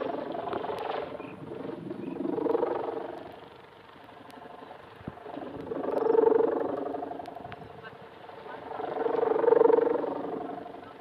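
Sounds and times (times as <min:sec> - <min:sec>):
kite hummer droning: 0:00.0 - 0:11.0.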